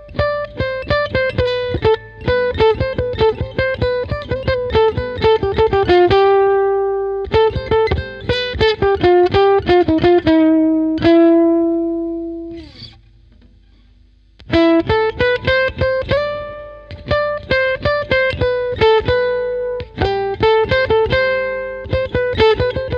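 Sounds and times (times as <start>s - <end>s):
guitar plucked notes: 0.0s - 22.9s.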